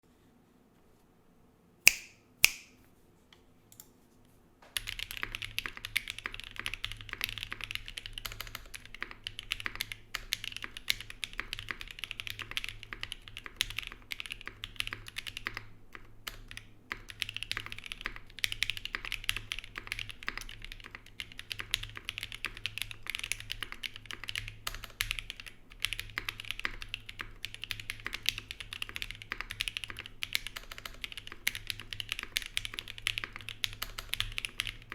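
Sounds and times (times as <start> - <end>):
typing on mechanical keyboard: 4.8 - 34.9.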